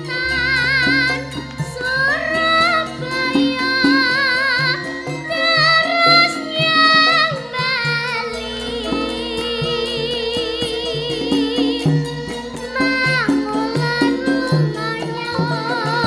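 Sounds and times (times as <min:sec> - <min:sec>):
gamelan ensemble: 0:00.0 - 0:16.0
woman singing with vibrato: 0:00.0 - 0:16.0.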